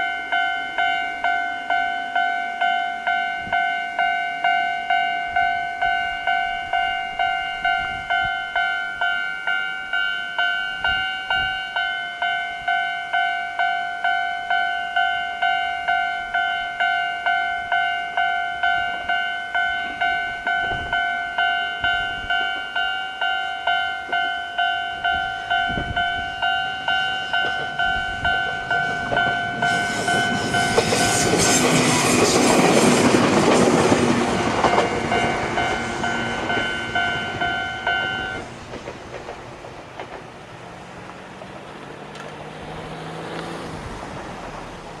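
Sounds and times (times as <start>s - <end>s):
level-crossing alarm bell: 0.0s - 38.5s
train rushing over rails: 0.0s - 45.0s.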